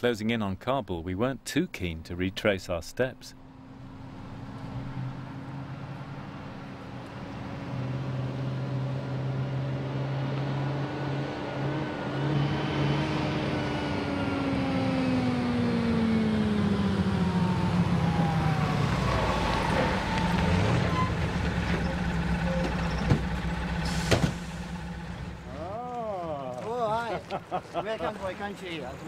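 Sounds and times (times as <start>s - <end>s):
jeep engine approaching: 3.0s - 29.0s.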